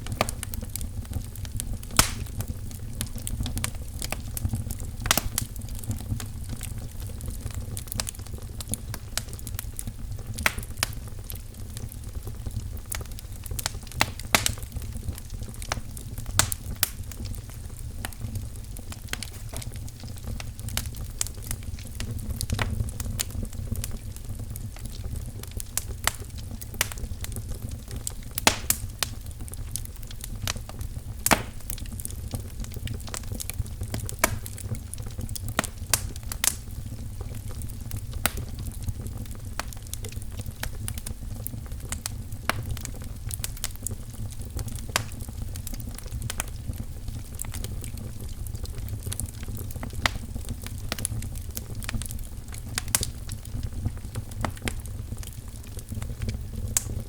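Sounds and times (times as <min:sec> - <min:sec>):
firewood popping and snapping: 0:00.0 - 0:57.0
low rumble of flames: 0:00.0 - 0:57.0.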